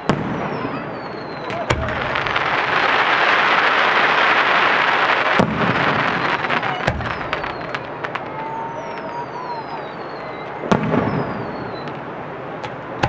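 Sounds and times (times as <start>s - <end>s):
falling firework whistles: 0.0s - 13.0s
firework shells booming: 0.0s - 13.0s
fireworks crackling: 0.0s - 13.0s.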